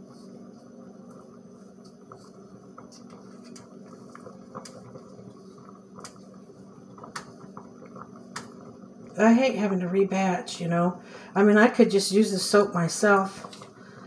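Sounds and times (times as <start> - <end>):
water simmering: 0.0 - 14.0.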